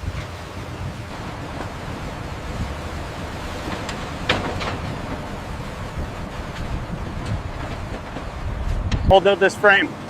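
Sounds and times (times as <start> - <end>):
construction machinery rumble: 0.0 - 10.0.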